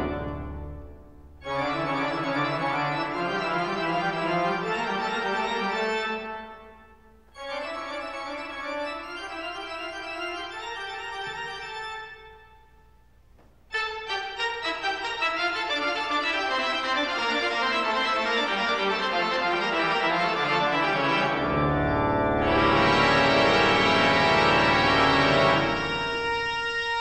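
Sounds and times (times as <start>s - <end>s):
slow organ-like keyboard chords: 0.0s - 14.5s, 16.5s - 27.0s.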